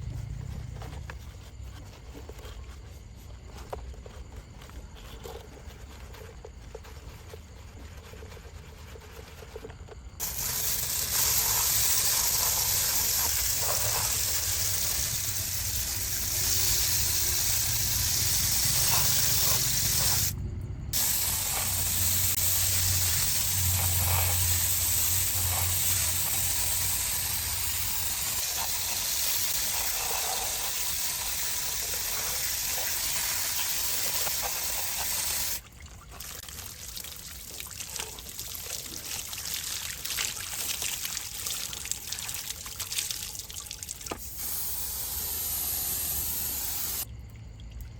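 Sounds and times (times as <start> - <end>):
water sprayer hissing: 5.2 - 35.6, 38.2 - 47.1.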